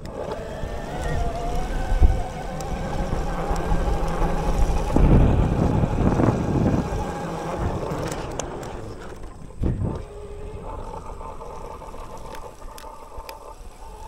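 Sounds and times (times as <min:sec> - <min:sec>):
electric motor whining: 0:00.0 - 0:14.0
tyres on trail: 0:00.0 - 0:14.0
wind rushing on microphone: 0:00.1 - 0:14.0.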